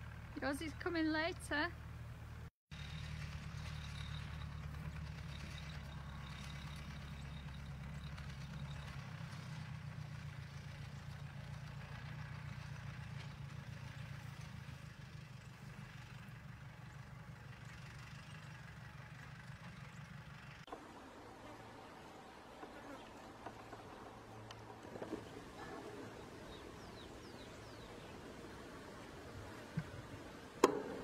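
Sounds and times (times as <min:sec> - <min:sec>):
vehicle engine idling: 0:00.0 - 0:20.8, 0:23.3 - 0:31.0.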